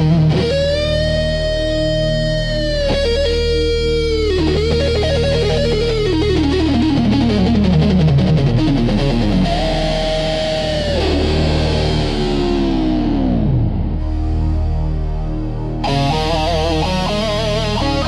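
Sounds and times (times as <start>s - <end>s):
electric guitar lead: 0.0s - 18.0s
low bass: 0.0s - 18.0s.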